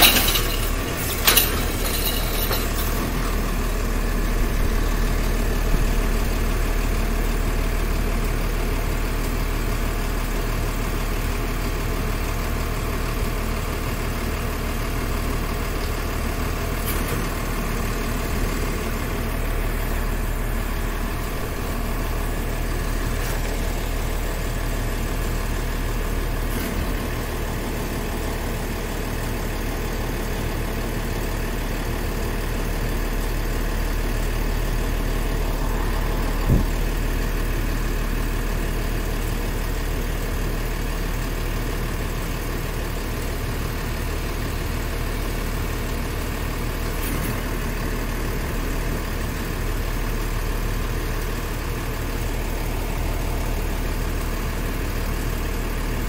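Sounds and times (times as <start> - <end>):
garbage truck engine idling: 0.0 - 56.0.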